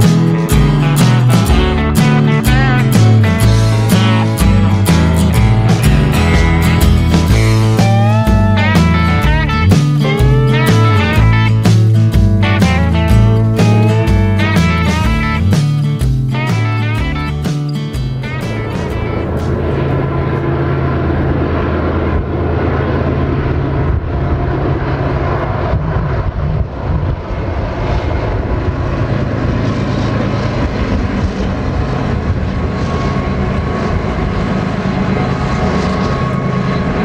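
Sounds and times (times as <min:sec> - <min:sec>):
locomotive diesel engines droning: 0:00.0 - 0:37.0.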